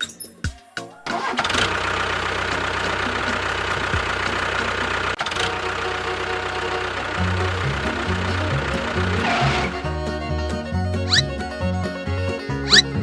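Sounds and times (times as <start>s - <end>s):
motor running: 1.3s - 13.0s.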